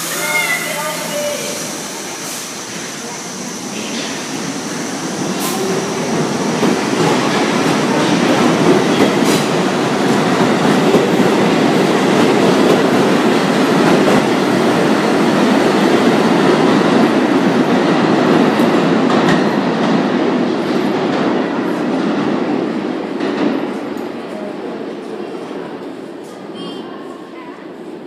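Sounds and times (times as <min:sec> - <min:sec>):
subway train rail noise: 0:00.0 - 0:28.0.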